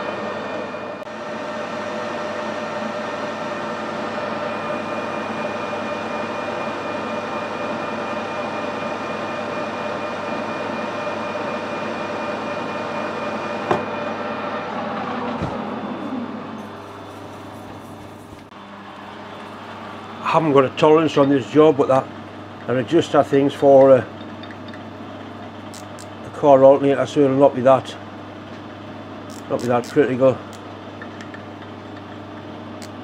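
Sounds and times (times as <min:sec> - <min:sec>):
metal lathe whining: 0:00.0 - 0:26.6, 0:29.3 - 0:33.0.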